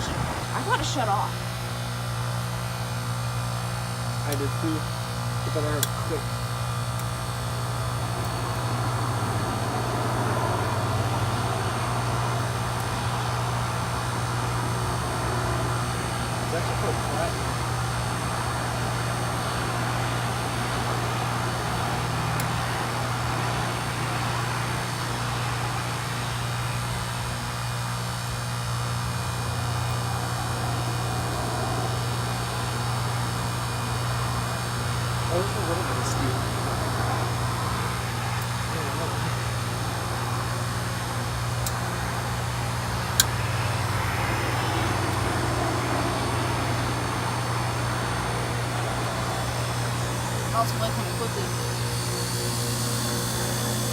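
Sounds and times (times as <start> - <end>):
compressor humming: 0.0 - 53.9.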